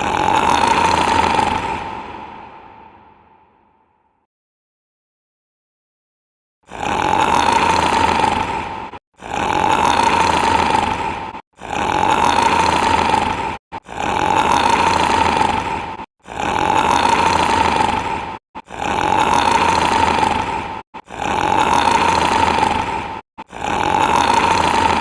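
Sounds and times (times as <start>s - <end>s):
loud snoring: 0.0s - 3.5s, 6.7s - 25.0s.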